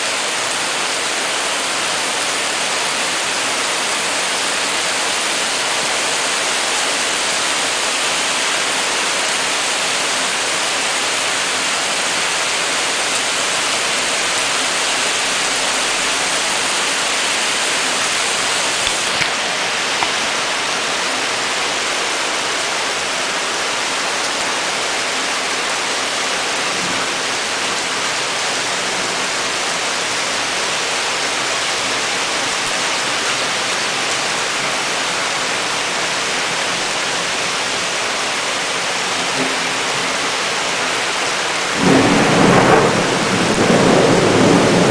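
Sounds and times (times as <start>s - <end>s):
torrential rain hissing: 0.0s - 44.9s.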